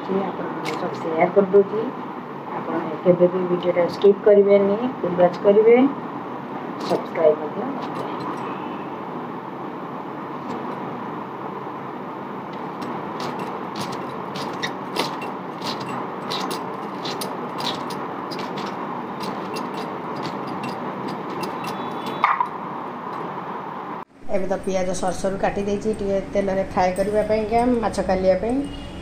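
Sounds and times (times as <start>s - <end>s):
steady background hiss: 0.0s - 21.4s, 22.6s - 29.0s.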